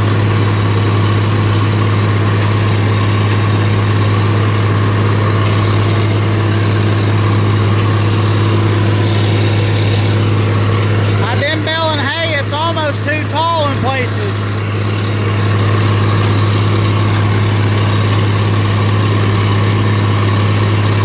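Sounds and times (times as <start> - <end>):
tractor diesel engine droning: 0.0 - 21.0.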